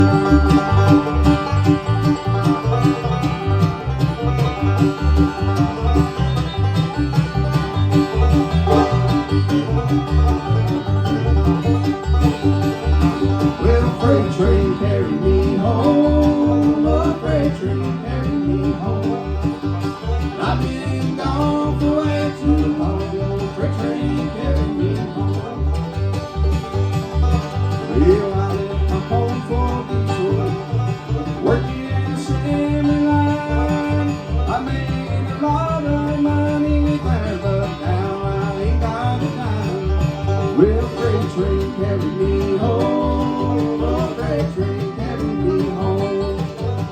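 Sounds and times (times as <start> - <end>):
banjo picking: 0.0 - 46.9
guitar picking: 0.0 - 46.9.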